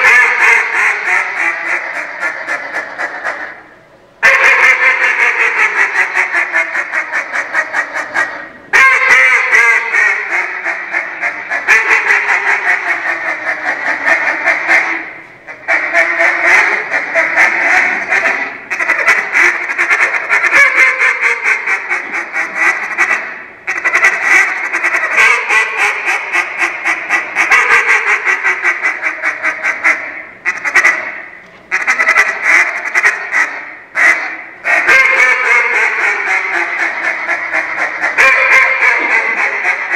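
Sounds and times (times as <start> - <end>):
duck call quacks: 0.0 - 39.9.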